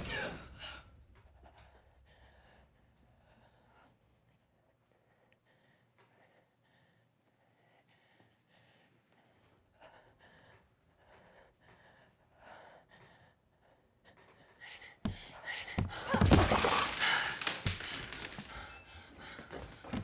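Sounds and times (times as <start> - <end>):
quiet breathing: 0.0 - 16.1.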